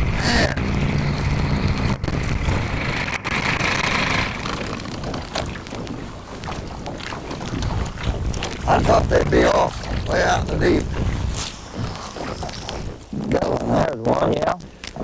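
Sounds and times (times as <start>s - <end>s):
outboard engine running: 0.0s - 15.0s.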